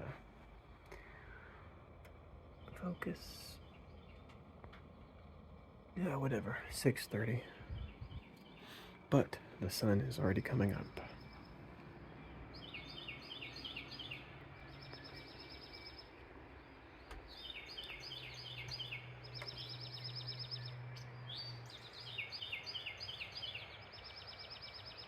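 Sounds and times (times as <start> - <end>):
low steady hum: 0.0 - 25.0
songbird singing trills: 0.0 - 25.0.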